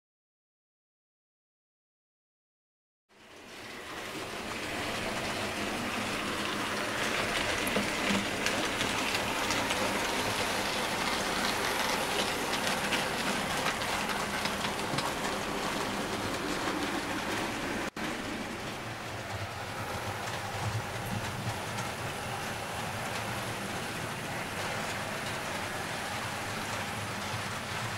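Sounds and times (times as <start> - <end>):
model train wheels clattering: 4.2 - 27.9.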